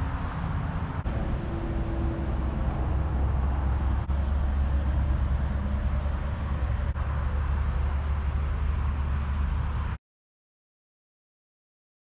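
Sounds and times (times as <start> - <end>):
car road noise rumble: 0.0 - 9.9
thin high whine: 0.0 - 10.0.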